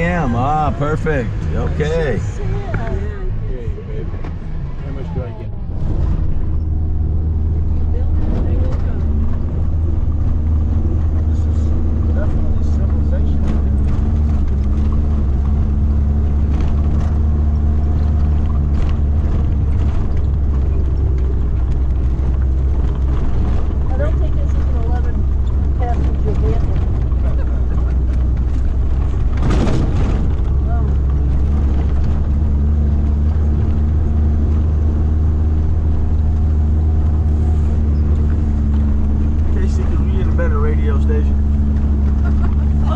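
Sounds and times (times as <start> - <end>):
engine rumble inside vehicle: 0.0 - 42.9.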